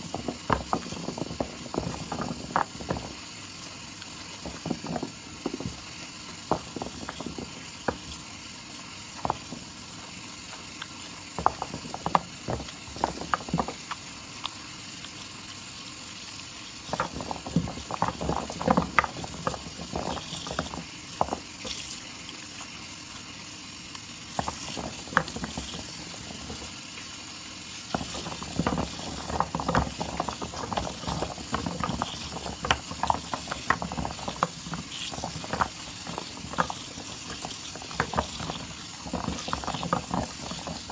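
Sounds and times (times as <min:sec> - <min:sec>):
wet soap lather crackling: 0:00.0 - 0:40.9.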